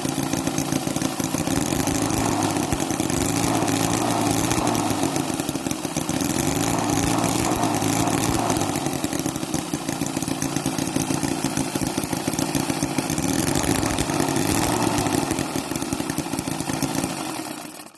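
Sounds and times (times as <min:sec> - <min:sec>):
model gasoline engine running: 0:00.0 - 0:17.9.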